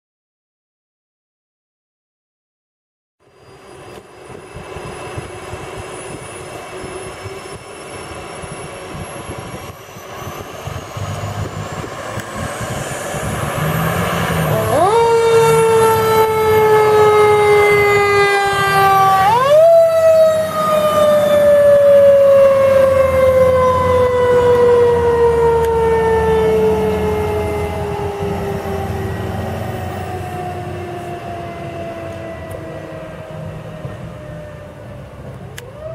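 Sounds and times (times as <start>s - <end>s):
siren wailing: 3.2s - 35.9s.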